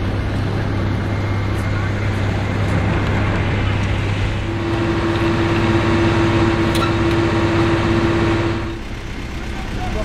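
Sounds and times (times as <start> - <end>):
machinery drone: 0.0 - 10.0
steady whine: 0.0 - 10.0.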